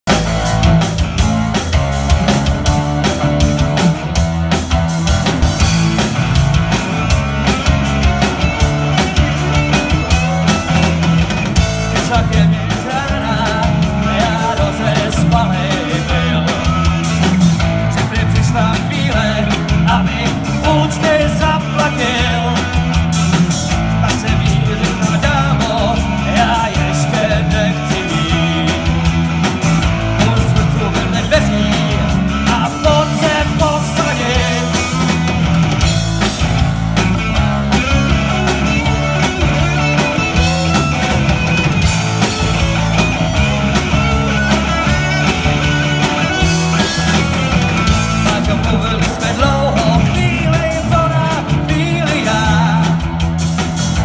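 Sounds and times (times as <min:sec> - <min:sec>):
distorted electric guitars: 0:00.0 - 0:54.0
heavy bass notes: 0:00.0 - 0:54.0
drum beat: 0:00.1 - 0:54.0.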